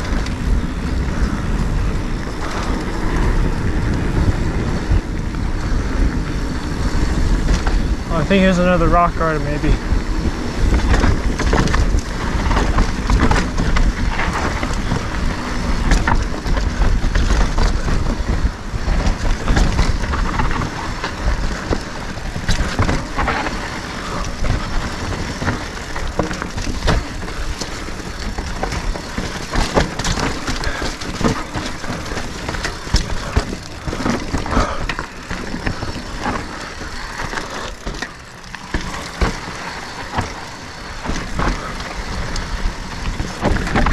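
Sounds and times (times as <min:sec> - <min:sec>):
bike knocking and rattling on rocks: 0:00.0 - 0:43.9.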